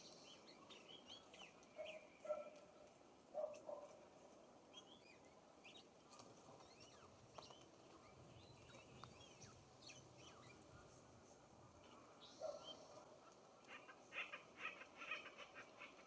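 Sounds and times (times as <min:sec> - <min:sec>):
soft outdoor background hiss: 0:00.0 - 0:16.0
songbirds chirping: 0:00.0 - 0:16.0.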